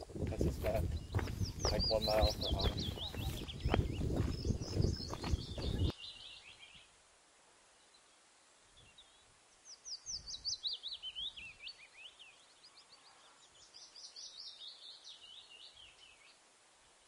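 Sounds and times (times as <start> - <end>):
songbird chirping song: 0.0 - 17.0.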